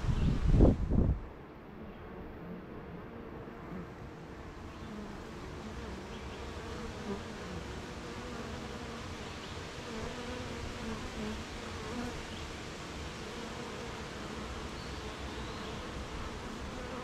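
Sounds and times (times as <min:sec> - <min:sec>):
bees humming around hive: 0:01.2 - 0:17.0
single bee buzzing past: 0:01.6 - 0:17.0.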